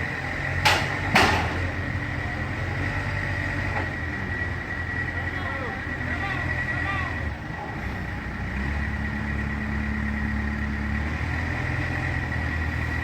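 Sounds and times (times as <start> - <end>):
heavy equipment engine running: 0.0 - 13.0.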